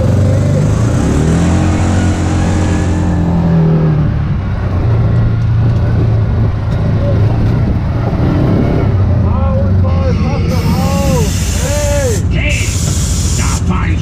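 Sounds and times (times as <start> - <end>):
vehicle engine driving: 0.0 - 14.0.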